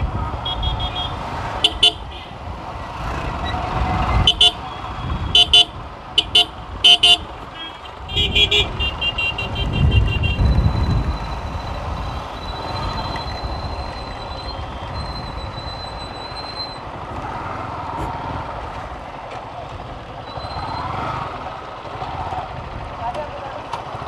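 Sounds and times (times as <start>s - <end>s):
motorcycle engine at low speed: 0.0s - 24.0s.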